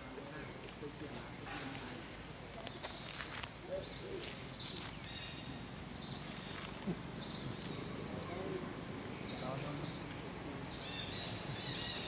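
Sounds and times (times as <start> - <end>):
birds chirping: 0.0 - 12.0
outdoor background noise: 0.0 - 12.0.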